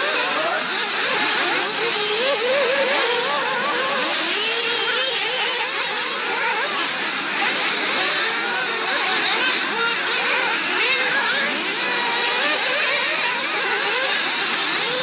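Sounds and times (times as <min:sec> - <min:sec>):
model car engines whining: 0:00.0 - 0:15.0.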